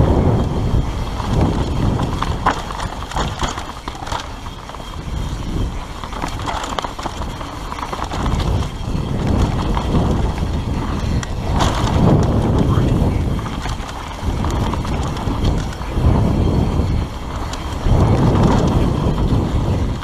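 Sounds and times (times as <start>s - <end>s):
bike knocks and rattles: 0.0s - 20.0s
tyres on dirt: 0.0s - 20.0s
wind buffeting microphone: 0.0s - 20.0s.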